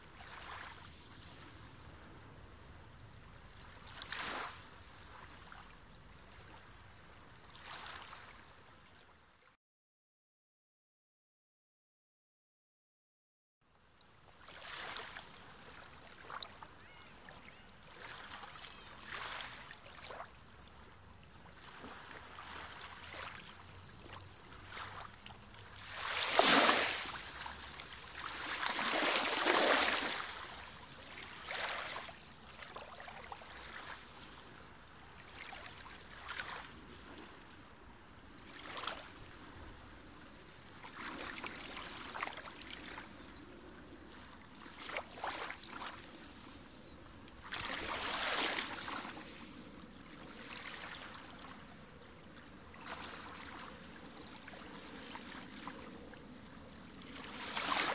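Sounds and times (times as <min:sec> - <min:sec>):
rushing water swells: 0:03.4 - 0:08.6, 0:14.1 - 0:46.6, 0:47.4 - 0:57.9.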